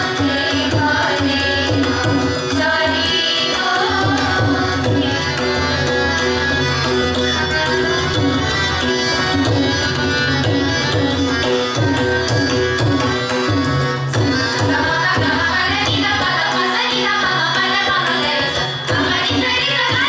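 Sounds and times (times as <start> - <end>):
harmonium sustained notes: 0.0 - 20.0.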